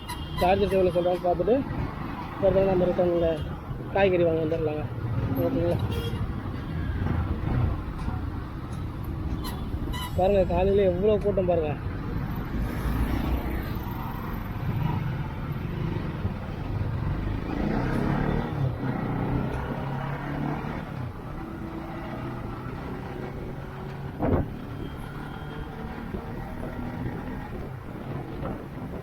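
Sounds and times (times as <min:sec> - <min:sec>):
rumble of road traffic: 0:00.0 - 0:29.0.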